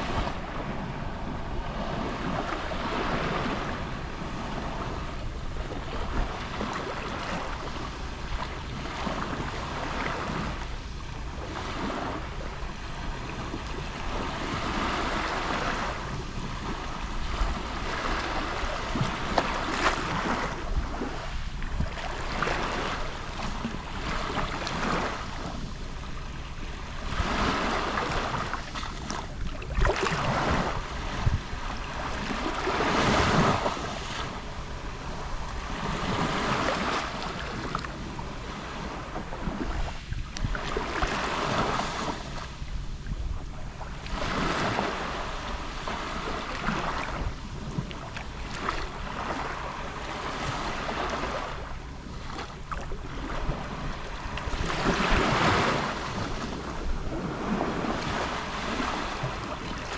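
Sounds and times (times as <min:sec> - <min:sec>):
small waves lapping on shore: 0:00.0 - 0:59.9
wind rumble on microphone: 0:00.0 - 0:59.9.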